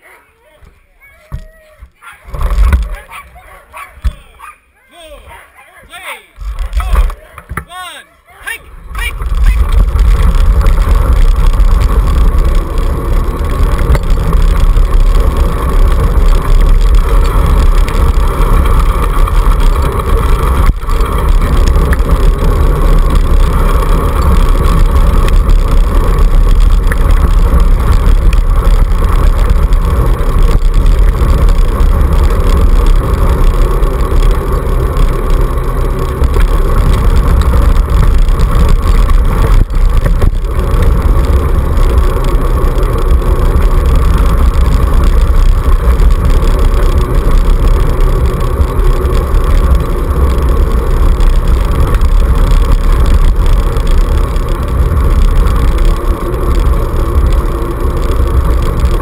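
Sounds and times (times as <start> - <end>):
scooter wheels rumbling on dirt: 0.0 - 59.0
wind buffeting camera: 1.3 - 3.4, 8.7 - 59.0.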